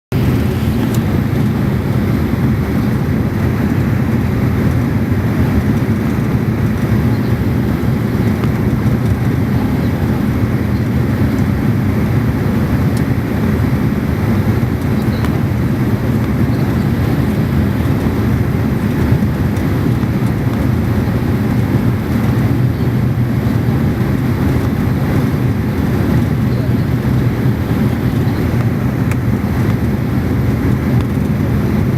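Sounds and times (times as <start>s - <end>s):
turboprop cabin drone: 0.1s - 31.9s.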